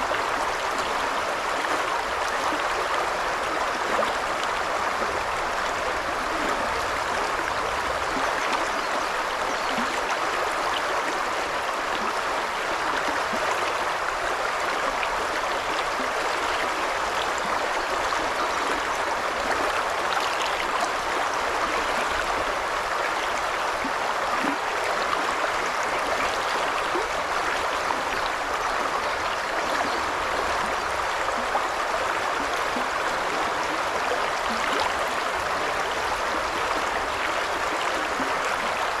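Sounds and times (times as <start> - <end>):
river babbling over stones: 0.0 - 39.0.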